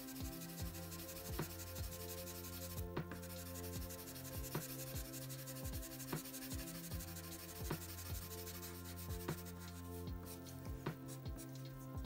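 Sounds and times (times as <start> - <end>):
charcoal pencil scratching paper: 0.0 - 11.9
soft music of held chords: 0.0 - 12.0.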